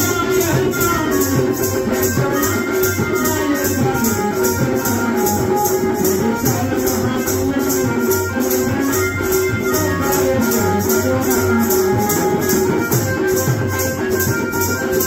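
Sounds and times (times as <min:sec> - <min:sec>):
held melodic notes: 0:00.0 - 0:15.0
rattle keeping a steady beat: 0:00.0 - 0:15.0.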